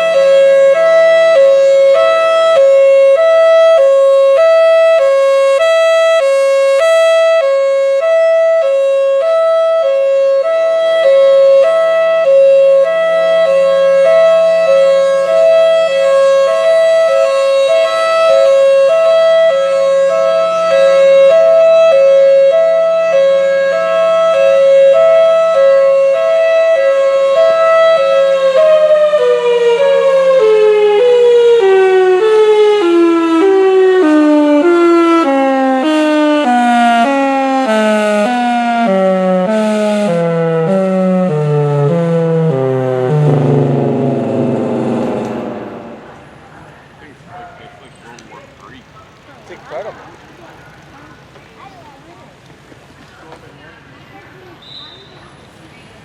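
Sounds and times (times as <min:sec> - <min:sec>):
hi-lo warning siren: 0:00.0 - 0:46.9.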